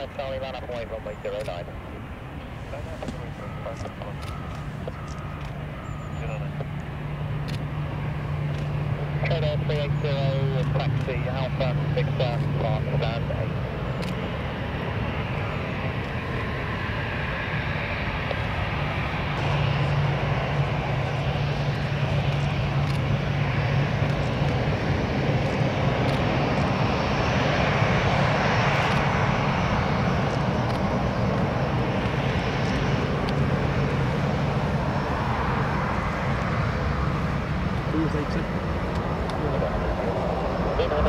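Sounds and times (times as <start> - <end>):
airliner engines rushing: 0.0 - 41.0.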